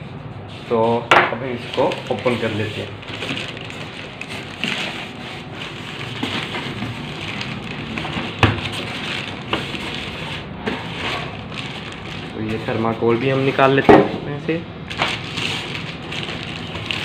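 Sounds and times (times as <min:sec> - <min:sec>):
foam packing rubbing: 0:01.4 - 0:13.6, 0:14.8 - 0:17.0
plastic wrap crinkling: 0:01.5 - 0:13.8, 0:14.8 - 0:17.0.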